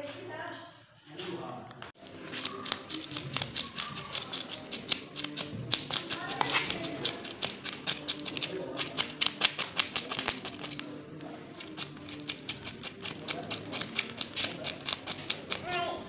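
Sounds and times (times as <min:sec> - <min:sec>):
knife scraping fish scales: 0:02.1 - 0:10.9, 0:11.6 - 0:15.7.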